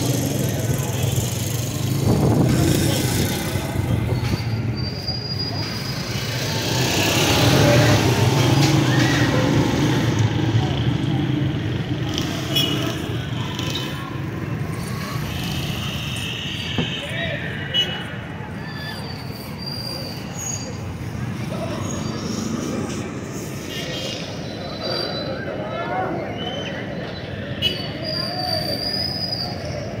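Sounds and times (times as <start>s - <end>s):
people talking: 0.0s - 4.2s, 6.5s - 19.1s, 20.6s - 28.9s
traffic hum: 0.0s - 30.0s.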